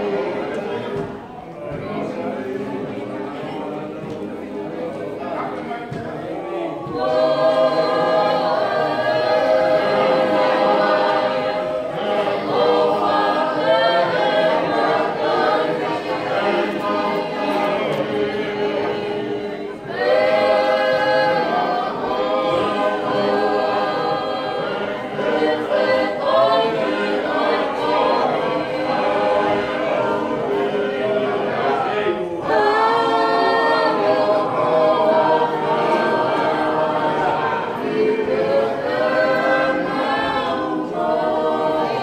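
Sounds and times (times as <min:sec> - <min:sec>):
choir singing a hymn: 0:00.0 - 0:42.0.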